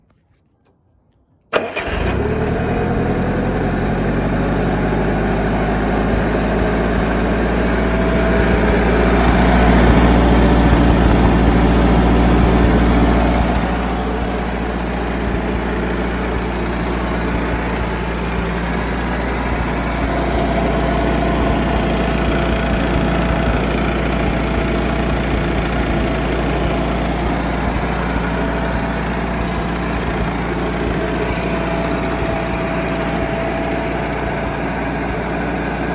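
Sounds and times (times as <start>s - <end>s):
concrete saw running: 4.8s - 35.9s.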